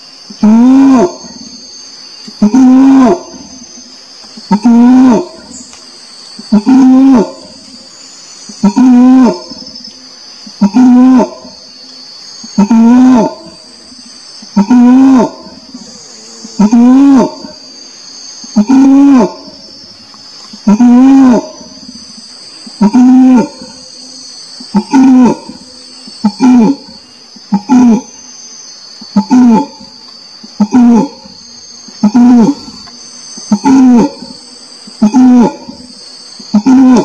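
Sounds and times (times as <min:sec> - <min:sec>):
high insect buzz: 0:00.0 - 0:37.0
orangutan moaning calls: 0:00.3 - 0:01.6, 0:02.3 - 0:03.6, 0:04.4 - 0:05.7, 0:06.4 - 0:11.8, 0:12.5 - 0:19.9, 0:20.5 - 0:28.4, 0:29.0 - 0:37.0.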